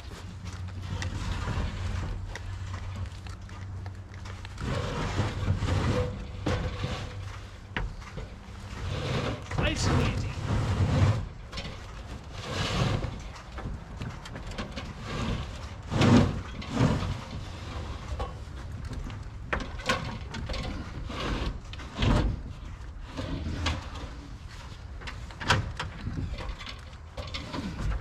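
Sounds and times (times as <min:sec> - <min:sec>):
building material scraping: 0:00.0 - 0:03.1, 0:04.4 - 0:19.0, 0:19.8 - 0:25.3.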